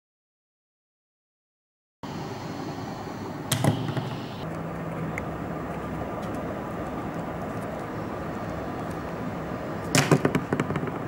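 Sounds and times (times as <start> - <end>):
steady background hiss: 2.0 - 11.0.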